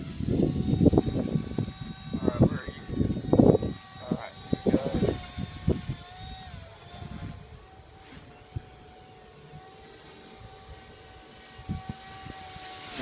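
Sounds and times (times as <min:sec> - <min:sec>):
rc helicopter whine: 0:00.0 - 0:13.0
wind buffeting microphone: 0:00.0 - 0:13.0.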